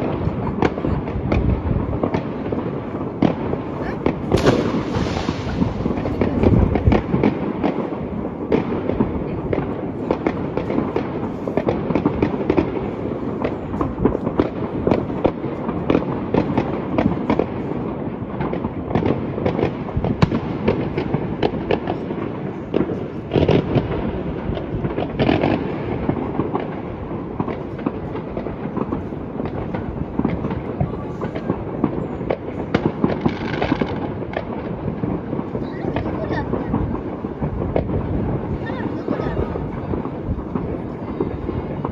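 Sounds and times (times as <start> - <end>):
fireworks crackling and banging: 0.0 - 41.9.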